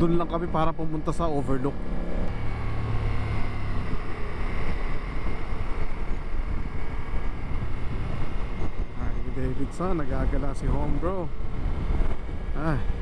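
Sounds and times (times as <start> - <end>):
motorcycle engine hum: 0.0 - 13.0
wind rush on microphone: 0.4 - 13.0.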